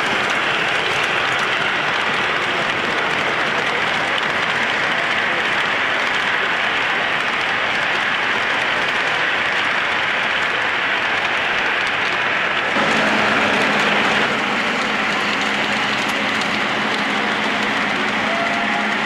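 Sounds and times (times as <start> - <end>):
model train wheels rumbling: 0.0 - 19.0.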